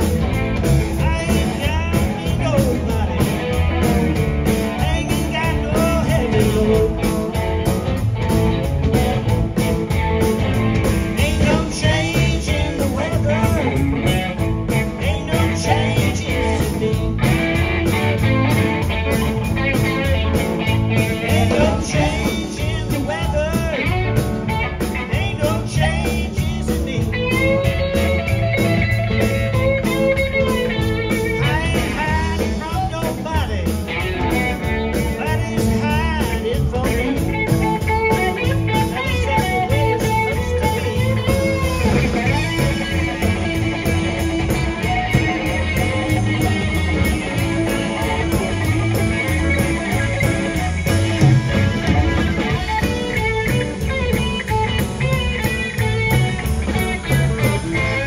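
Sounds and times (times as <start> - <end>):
live blues-rock band: 0.0 - 58.0.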